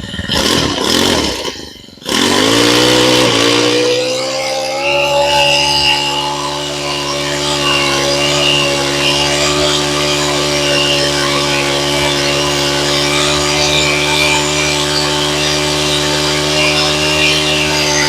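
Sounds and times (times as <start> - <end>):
brush cutter engine running: 0.0 - 18.0.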